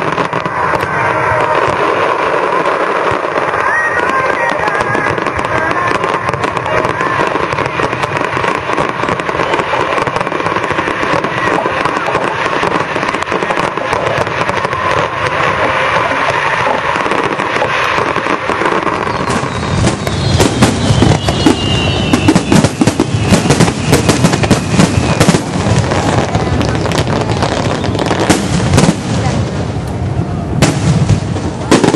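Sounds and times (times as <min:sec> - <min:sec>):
crowd chattering: 0:00.0 - 0:31.9
fireworks popping and crackling: 0:00.0 - 0:31.9.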